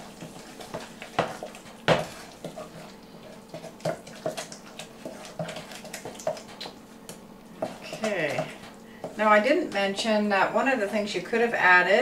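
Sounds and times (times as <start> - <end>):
spoon stirring thick pudding: 0.0 - 11.2.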